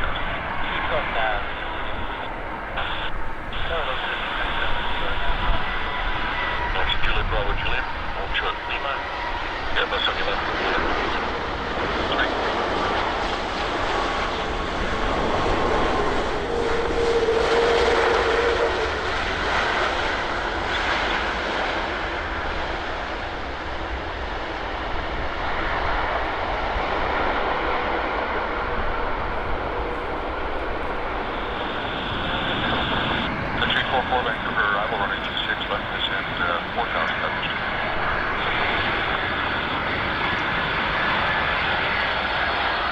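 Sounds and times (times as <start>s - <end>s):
jet engines rushing: 0.0s - 42.9s.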